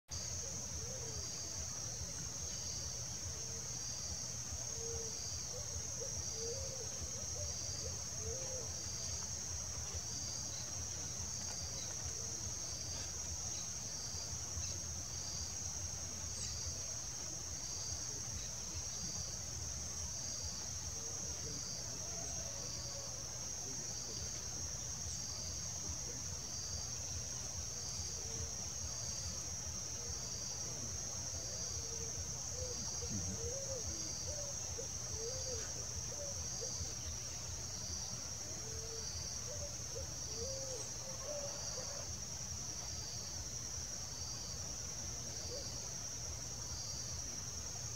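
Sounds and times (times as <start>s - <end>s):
pulsing insect call: 0.2s - 47.9s.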